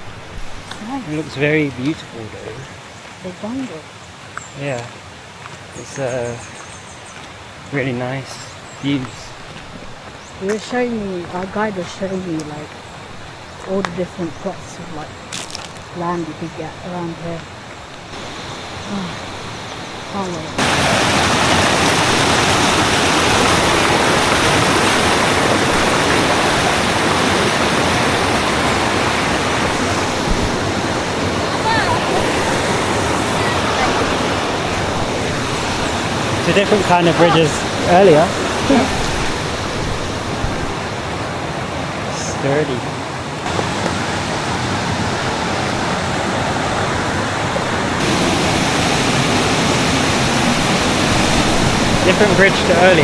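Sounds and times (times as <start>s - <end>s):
flowing water rushing: 0.0s - 6.6s, 7.2s - 53.0s.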